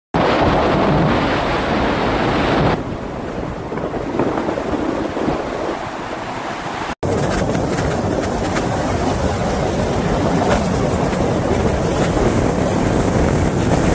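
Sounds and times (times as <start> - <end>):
motorcycle road and engine noise: 0.2 - 13.9
wind rushing over microphone: 0.2 - 13.9.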